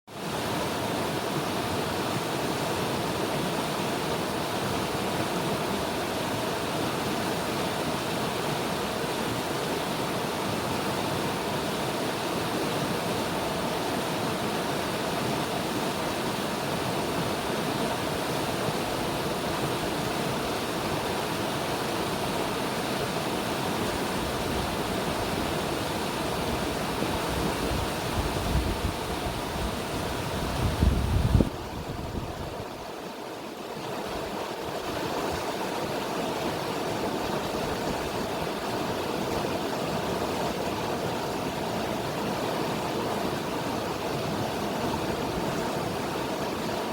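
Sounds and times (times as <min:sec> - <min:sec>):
river water rushing: 0:00.1 - 0:46.9.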